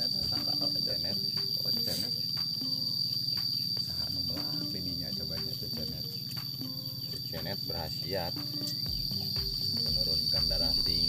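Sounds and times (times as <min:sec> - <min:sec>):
insect high-pitched whine: 0:00.0 - 0:11.0.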